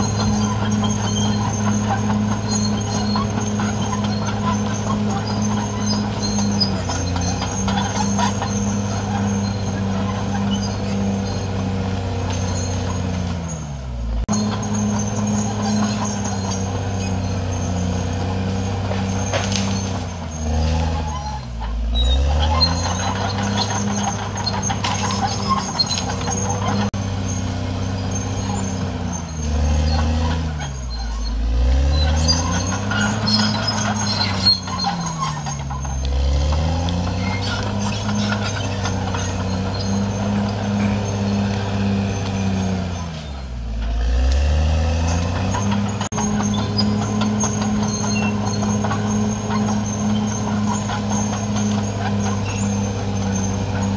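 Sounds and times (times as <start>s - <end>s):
diesel engine under heavy load: 0.0s - 53.9s
steel tracks clanking: 0.0s - 53.9s.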